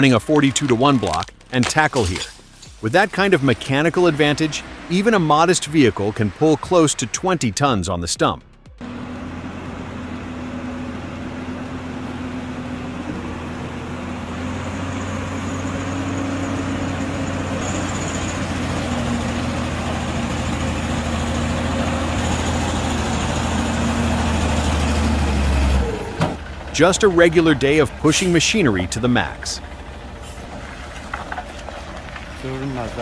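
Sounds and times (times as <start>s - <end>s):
vehicle engine under load: 0.0s - 33.0s.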